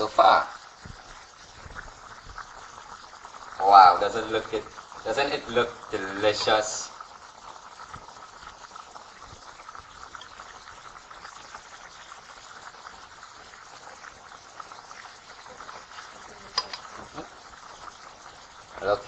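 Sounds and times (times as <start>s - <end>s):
pot of food bubbling: 0.0s - 19.0s.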